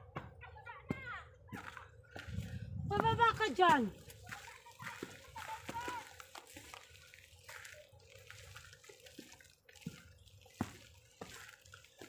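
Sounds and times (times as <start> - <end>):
footsteps on trail: 1.6 - 12.0.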